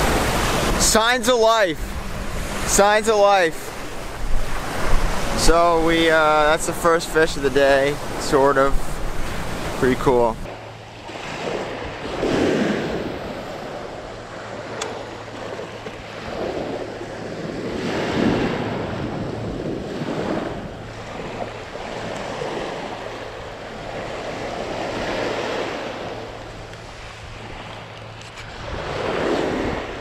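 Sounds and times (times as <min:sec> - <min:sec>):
small waves breaking on beach: 0:00.0 - 0:30.0.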